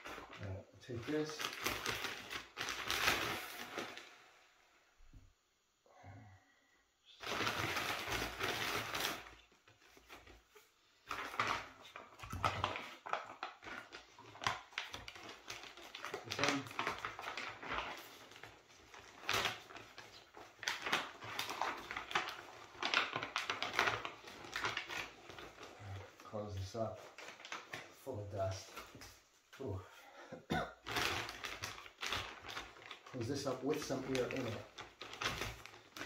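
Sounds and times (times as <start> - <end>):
bags crinkling and rustling: 0.0 - 4.4, 7.2 - 29.7, 30.8 - 36.0.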